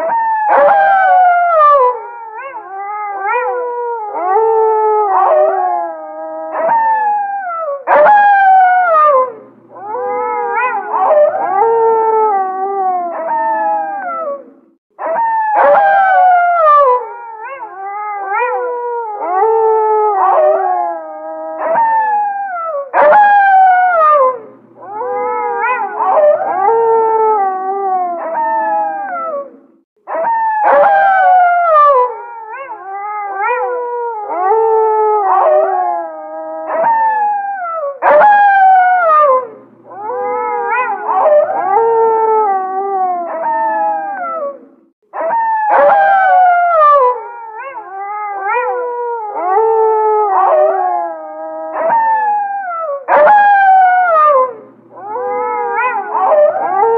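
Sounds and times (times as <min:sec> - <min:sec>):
wolves howling: 0:00.0 - 0:56.9.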